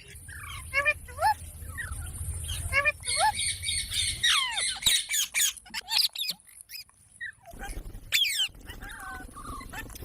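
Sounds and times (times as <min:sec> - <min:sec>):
parrot squawking and chirping: 0:00.0 - 0:10.0.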